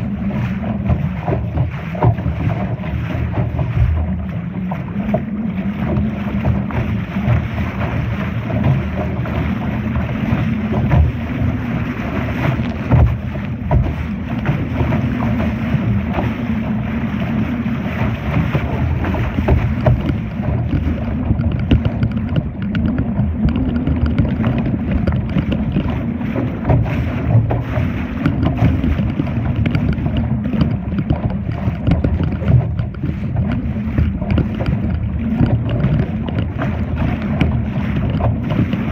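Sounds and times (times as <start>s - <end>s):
water splashing against hull: 0.0s - 38.9s
wind buffeting microphone: 0.0s - 38.9s.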